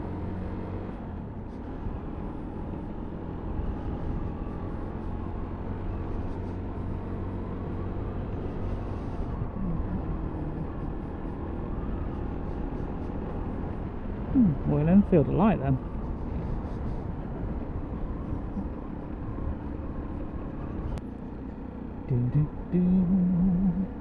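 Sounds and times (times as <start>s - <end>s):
road and wind noise: 0.0s - 24.0s
motorcycle engine running: 2.0s - 24.0s.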